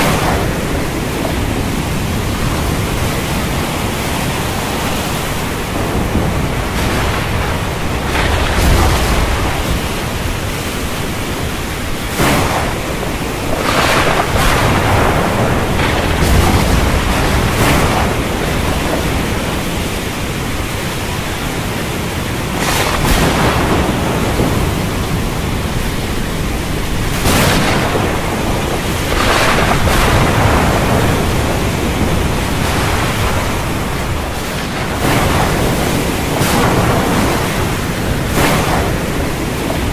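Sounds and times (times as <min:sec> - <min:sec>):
heavy rain: 0:00.0 - 0:39.9
thunder rolling: 0:00.0 - 0:39.9.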